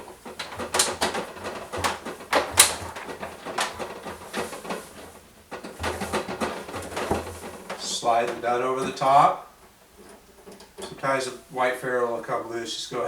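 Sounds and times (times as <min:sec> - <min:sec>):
plastic tubing knocking: 0:00.0 - 0:11.1.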